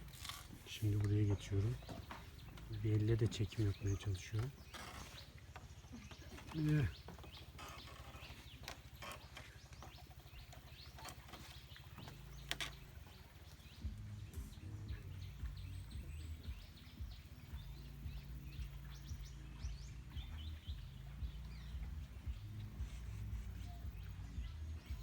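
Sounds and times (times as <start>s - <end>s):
faint bird chirps: 0.0s - 25.0s
microphone handling rumble: 0.0s - 25.0s.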